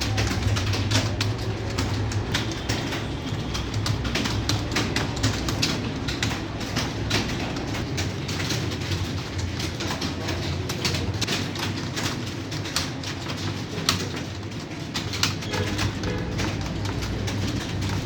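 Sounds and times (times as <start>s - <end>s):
computer keyboards clattering: 0.0s - 18.0s.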